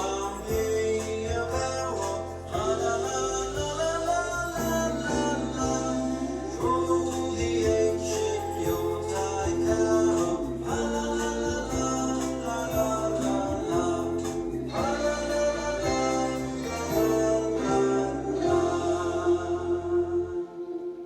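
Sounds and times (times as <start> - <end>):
choir singing a carol with instruments: 0.0 - 21.0.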